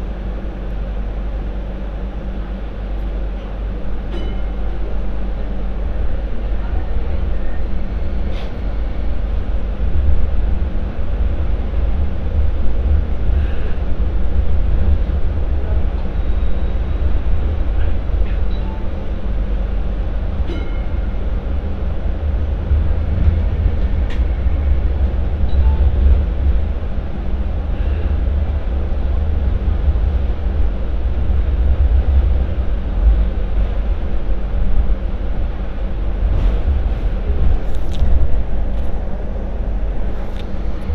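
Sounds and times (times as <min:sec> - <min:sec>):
light rail rumbling on track: 0:00.0 - 0:40.9.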